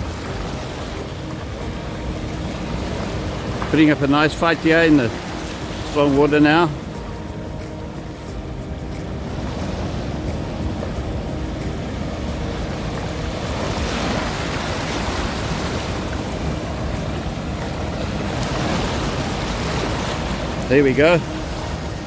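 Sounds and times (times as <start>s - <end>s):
small waves breaking on shore: 0.0s - 22.0s.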